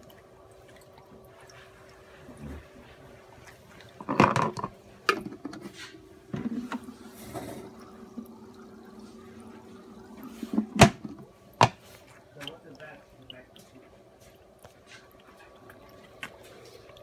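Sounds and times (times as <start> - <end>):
water churning and splashing: 0.0 - 5.1, 5.7 - 17.0
steady low hum: 0.0 - 17.0.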